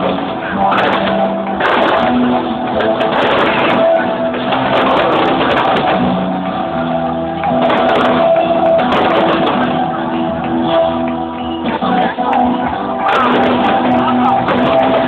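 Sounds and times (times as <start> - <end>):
crowd noise: 0.0 - 15.0
live music over public address: 0.0 - 15.0.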